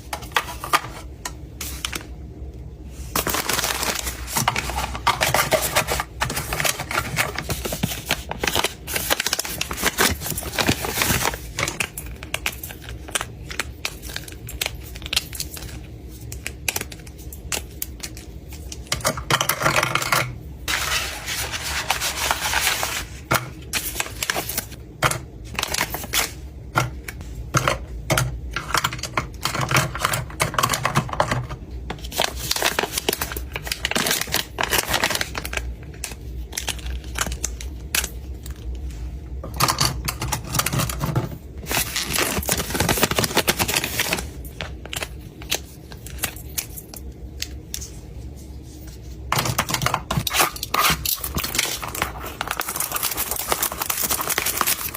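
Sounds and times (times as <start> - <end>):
plastic and paper crinkling: 0.0 - 27.7, 28.6 - 54.9.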